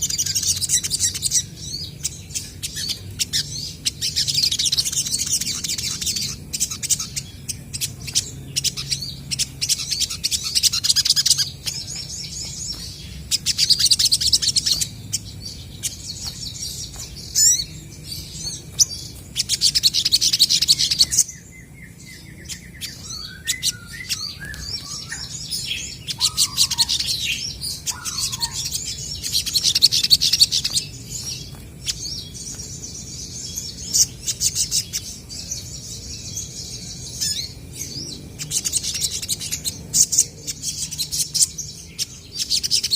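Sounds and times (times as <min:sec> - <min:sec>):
sunbirds chirping and trilling: 0:00.0 - 0:42.9.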